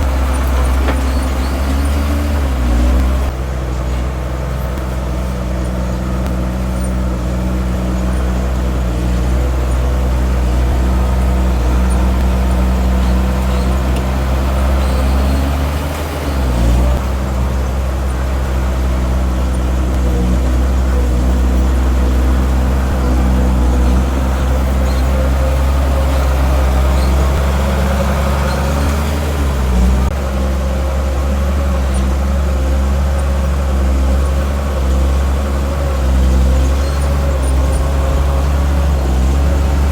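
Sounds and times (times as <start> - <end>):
diesel engine rumbling under load: 0.0 - 39.9.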